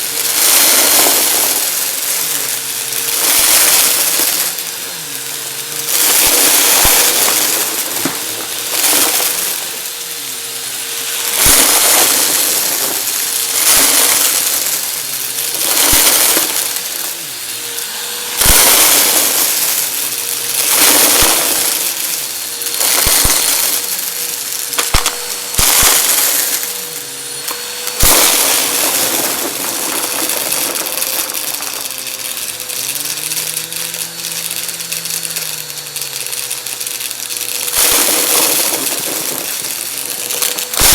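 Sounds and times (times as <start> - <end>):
vacuum cleaner motor hum: 0.0 - 40.9
vacuum sucking up crunchy confetti: 0.0 - 40.9.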